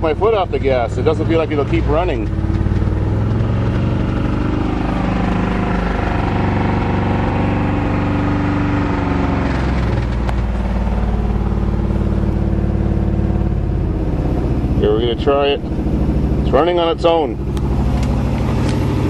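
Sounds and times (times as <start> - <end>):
pickup engine running rough: 0.0 - 19.0.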